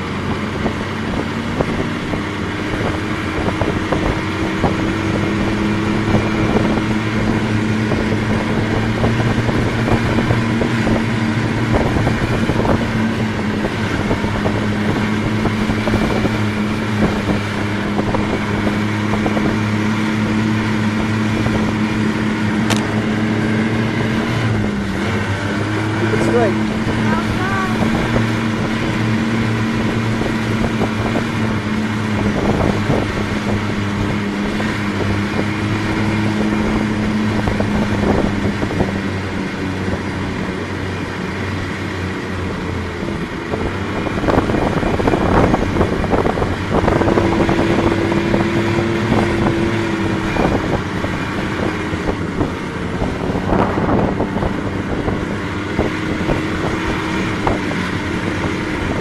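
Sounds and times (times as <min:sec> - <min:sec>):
snowmobile engine running: 0:00.0 - 0:59.0
wind buffeting microphone: 0:00.0 - 0:59.0.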